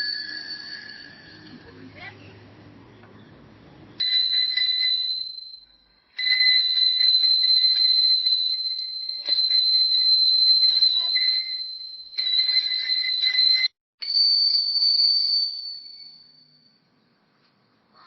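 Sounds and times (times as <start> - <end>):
bicycle bell trilling: 0.0 - 2.2, 4.0 - 17.0.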